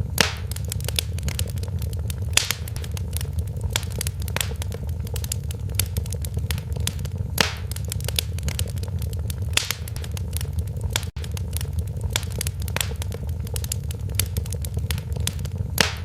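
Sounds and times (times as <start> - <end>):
wood fire crackling in a fireplace: 0.0 - 16.0.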